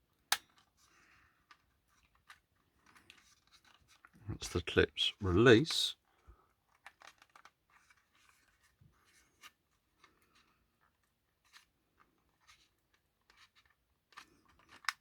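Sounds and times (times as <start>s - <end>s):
small plastic clicks and scratches: 0.3s - 4.2s, 6.5s - 15.0s.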